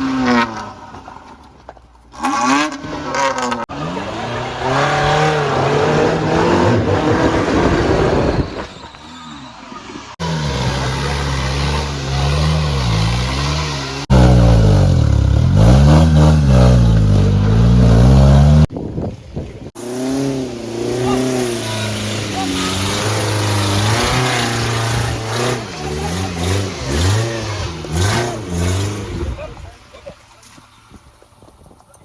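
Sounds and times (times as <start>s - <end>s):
off-road vehicle engines revving: 0.0s - 1.5s, 2.1s - 31.4s.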